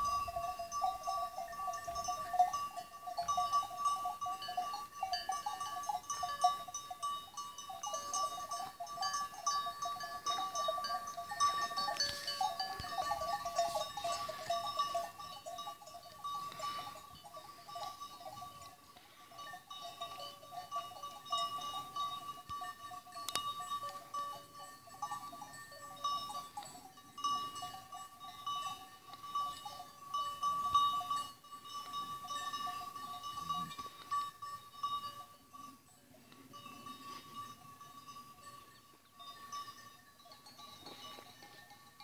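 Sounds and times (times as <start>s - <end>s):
sheep bells ringing: 0.0s - 42.0s.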